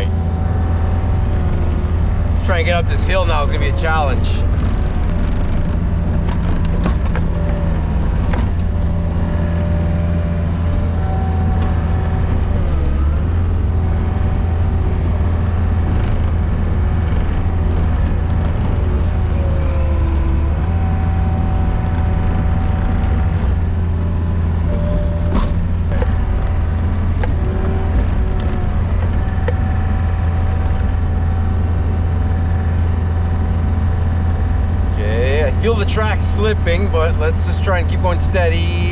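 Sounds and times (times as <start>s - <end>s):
diesel engine running hard: 0.0s - 38.9s
hydraulic whine: 0.0s - 38.9s.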